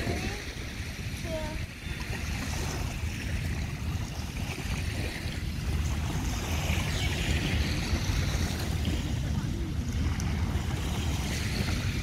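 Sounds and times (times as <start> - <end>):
small waves washing onto beach: 0.0 - 12.0
wind buffeting microphone: 0.0 - 12.0.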